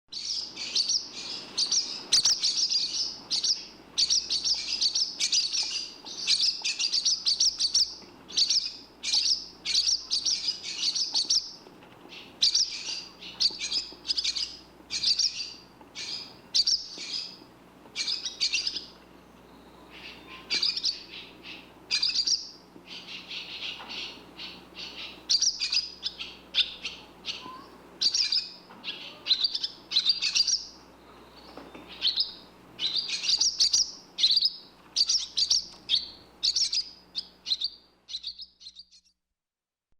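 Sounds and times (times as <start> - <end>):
swallows twittering: 0.1 - 39.1.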